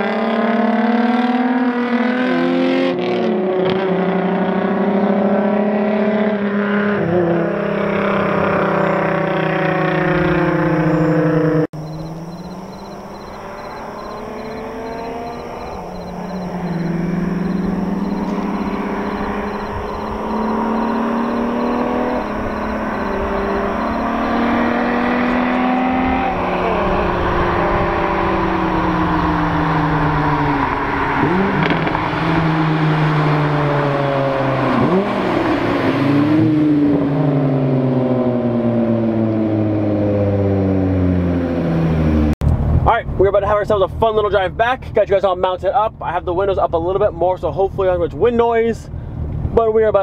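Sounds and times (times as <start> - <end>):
car engine revving through gears: 0.0 - 42.4.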